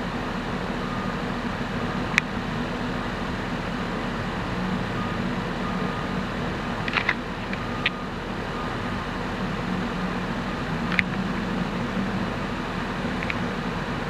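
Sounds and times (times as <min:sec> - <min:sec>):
city traffic noise: 0:00.0 - 0:14.0
diesel truck idling: 0:00.0 - 0:14.0.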